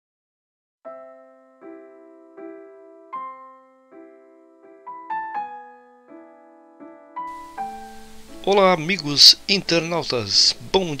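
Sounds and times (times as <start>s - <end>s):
slow gentle piano music: 0.8s - 11.0s.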